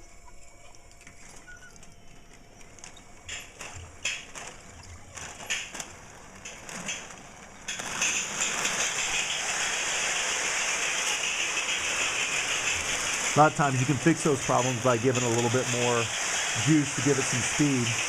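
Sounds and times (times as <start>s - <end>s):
toy train clicks and knocks: 0.9s - 18.0s
toy train rushing and rattling: 1.0s - 18.0s.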